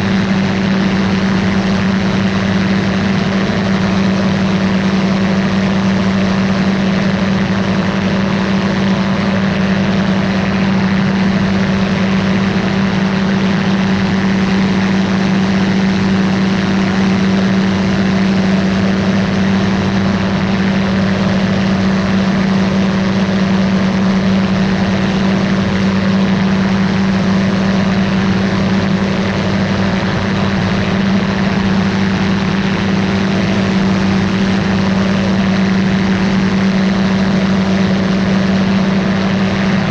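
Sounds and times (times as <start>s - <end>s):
ultralight aircraft engine droning: 0.0s - 39.9s.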